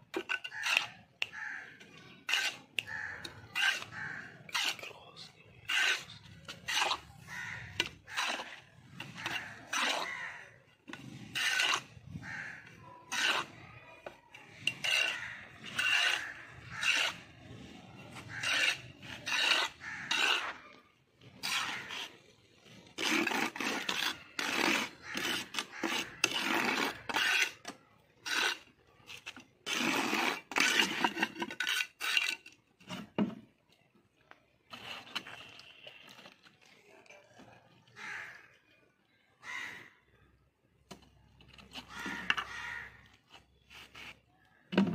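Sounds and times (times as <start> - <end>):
trowel scraping cement mix: 0.1 - 38.5, 40.9 - 44.9.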